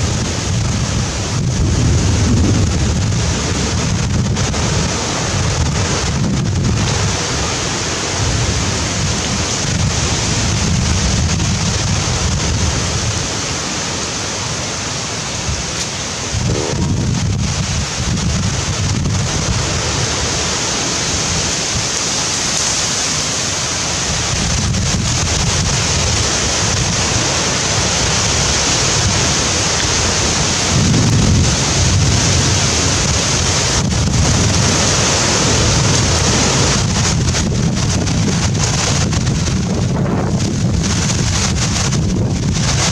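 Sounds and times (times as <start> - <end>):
wind buffeting microphone: 0.0 - 13.6, 15.3 - 22.0, 23.4 - 42.9.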